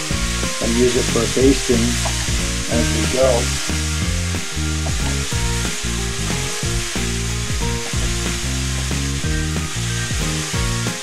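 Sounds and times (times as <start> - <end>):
background music: 0.0 - 11.0
steak sizzling in a skillet: 0.0 - 11.0.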